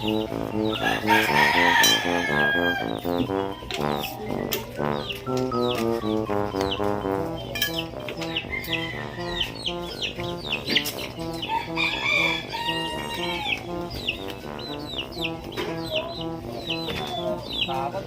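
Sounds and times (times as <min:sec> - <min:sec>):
chickens clucking: 0:00.0 - 0:18.0
high peeping chirps: 0:00.0 - 0:18.0
music with repeating beat: 0:00.0 - 0:18.0.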